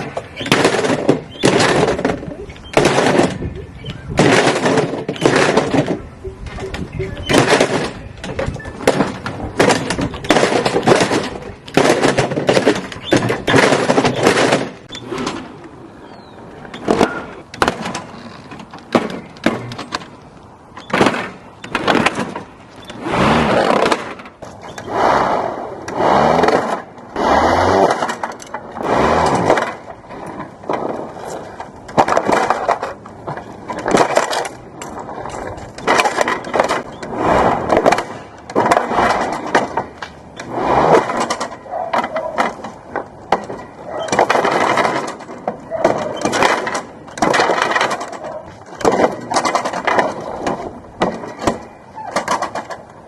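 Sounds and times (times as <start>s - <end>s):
lawnmower crunching plastic: 0.0s - 6.2s, 6.9s - 15.6s, 20.8s - 25.2s, 25.9s - 53.0s.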